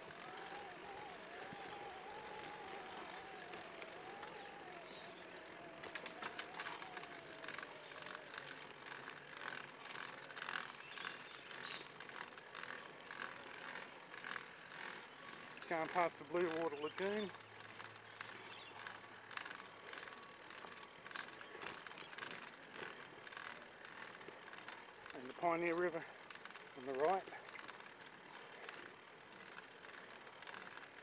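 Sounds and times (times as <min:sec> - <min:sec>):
bicycle chain whining: 0:00.0 - 0:31.0
fast uneven clicking and rattling: 0:00.0 - 0:31.0.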